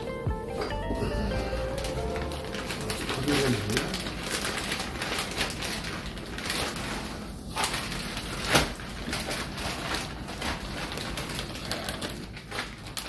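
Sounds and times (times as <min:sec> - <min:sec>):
plastic bag crinkling and rustling: 0:01.2 - 0:13.0.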